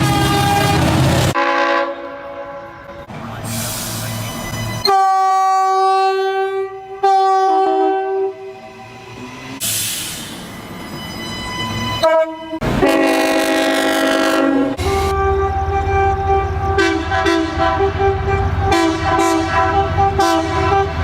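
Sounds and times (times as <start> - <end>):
locomotive air horn: 0.0 - 8.6, 11.7 - 21.0
train noise: 0.0 - 21.0.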